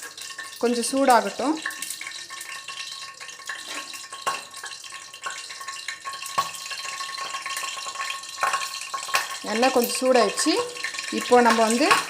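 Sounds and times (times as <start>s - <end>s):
oil popping: 0.0s - 12.0s
oil sizzling in a pan: 0.0s - 12.0s.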